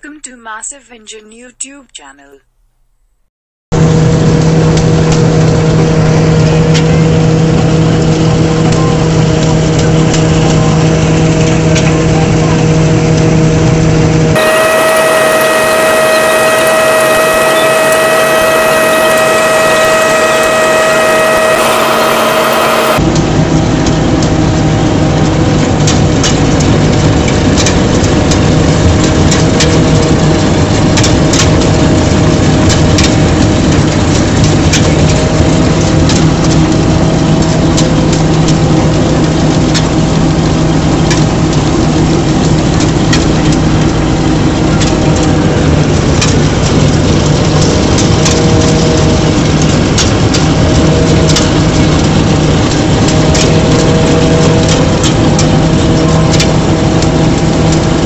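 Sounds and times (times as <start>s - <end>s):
diesel engine running: 3.7s - 58.0s.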